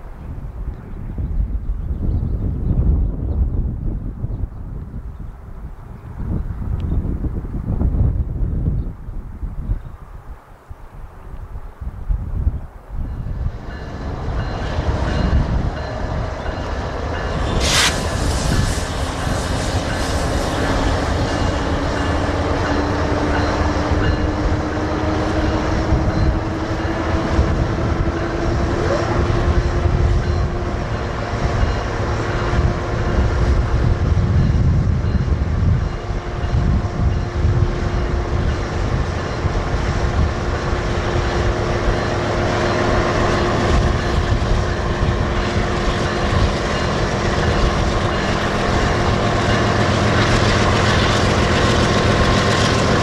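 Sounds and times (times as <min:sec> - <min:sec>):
freight train rumbling by: 0:00.0 - 0:53.0.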